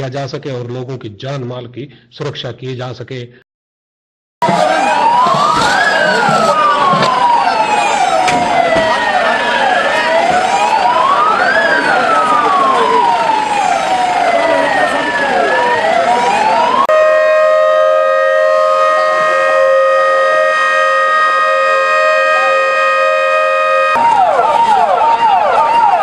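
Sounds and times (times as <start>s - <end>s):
emergency vehicle sirens wailing: 4.4s - 26.0s
steady held siren tone: 4.4s - 26.0s.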